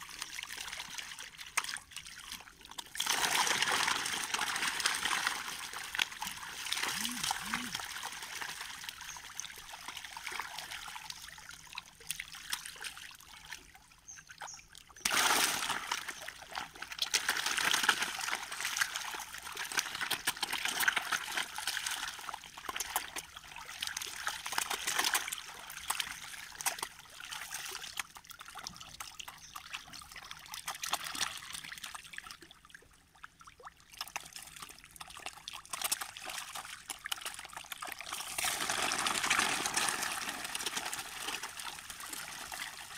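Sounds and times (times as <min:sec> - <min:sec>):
fish splashing in water: 0:00.0 - 0:13.8, 0:14.9 - 0:32.6, 0:33.5 - 0:42.9.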